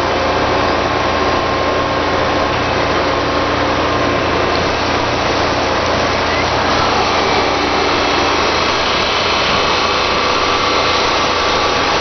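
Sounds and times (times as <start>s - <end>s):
heavy machine engine running: 0.0s - 12.0s.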